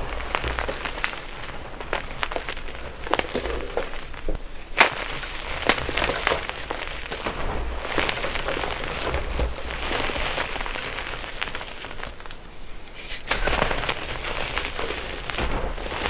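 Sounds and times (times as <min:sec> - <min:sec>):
chalk being crushed: 0:00.0 - 0:15.6.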